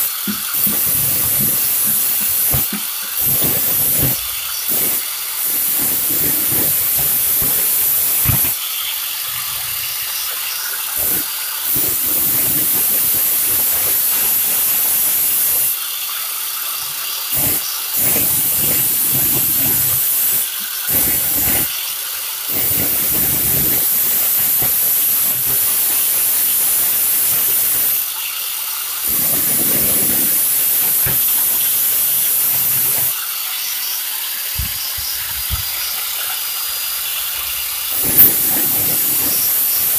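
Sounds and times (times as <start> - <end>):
angle grinder grinding steel: 0.0 - 15.8, 16.5 - 34.0, 34.6 - 39.9.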